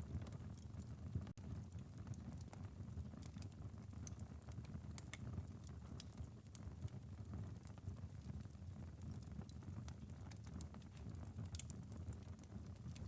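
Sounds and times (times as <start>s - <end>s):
rain pattering on a window: 0.0s - 13.0s
wood fire crackling and popping: 0.0s - 13.0s.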